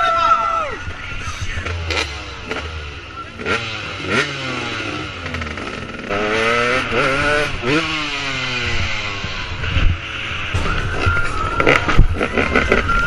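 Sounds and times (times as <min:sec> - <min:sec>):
motocross bike engine revving: 0:01.4 - 0:13.0.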